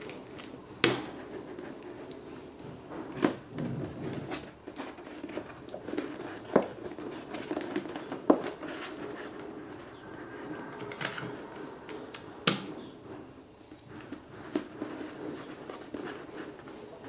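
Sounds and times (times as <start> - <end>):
plastic sheet rustling and crinkling: 0.0 - 17.0.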